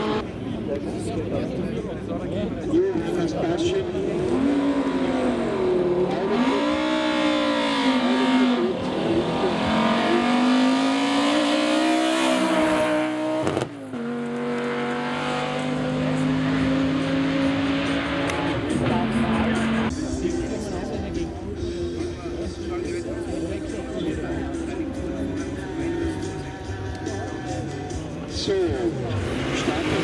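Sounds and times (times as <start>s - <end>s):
racing car engine revving: 3.7s - 20.9s, 23.2s - 30.0s.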